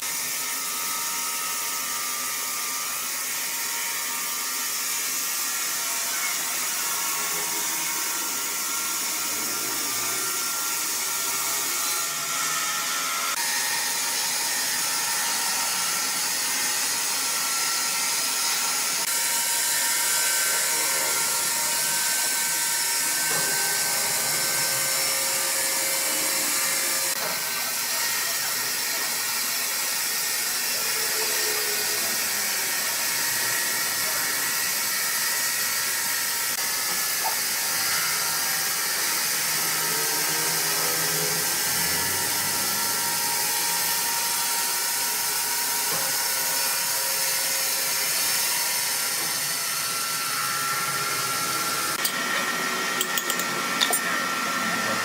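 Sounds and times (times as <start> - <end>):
woodworking machinery running: 0.0 - 55.0.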